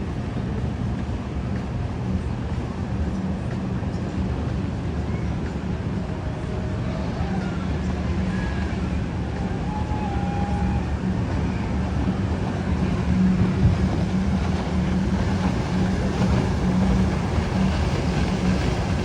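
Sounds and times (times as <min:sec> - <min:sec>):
ship engines droning: 0:00.0 - 0:19.0.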